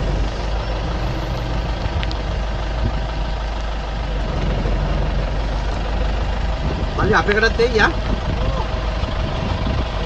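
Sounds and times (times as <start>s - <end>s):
jeep engine idling: 0.0s - 10.0s.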